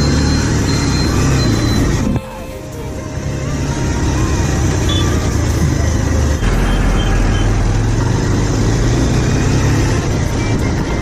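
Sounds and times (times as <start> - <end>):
motorcycle engine running: 0.0 - 11.0
traffic: 0.0 - 11.0.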